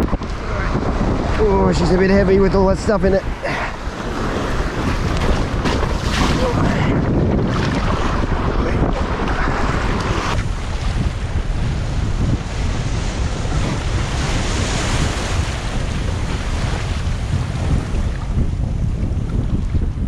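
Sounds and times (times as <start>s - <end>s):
sea waves: 0.0s - 19.4s
wind buffeting microphone: 0.0s - 20.0s.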